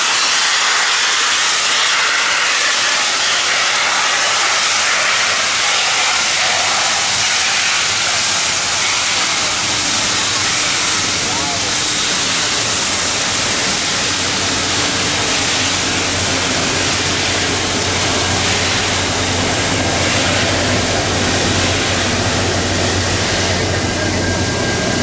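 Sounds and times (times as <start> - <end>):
steam train rumbling: 0.0 - 25.0.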